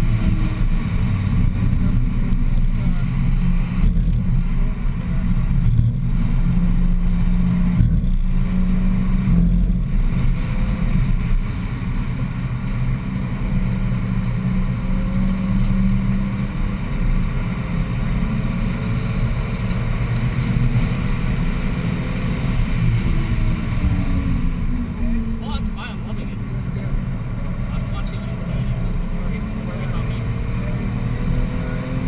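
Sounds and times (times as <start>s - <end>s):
car engine accelerating: 0.0s - 32.0s
tyre and road noise: 0.0s - 32.0s.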